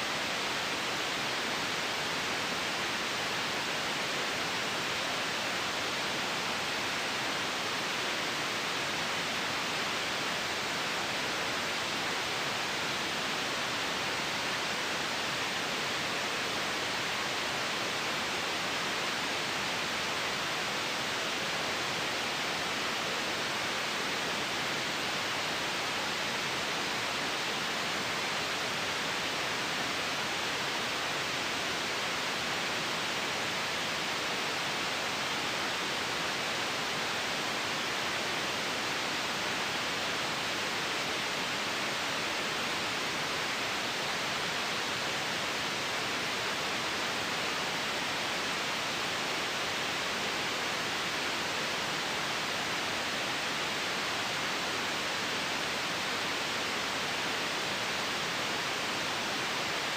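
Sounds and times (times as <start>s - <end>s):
steady white noise: 0.0s - 59.9s.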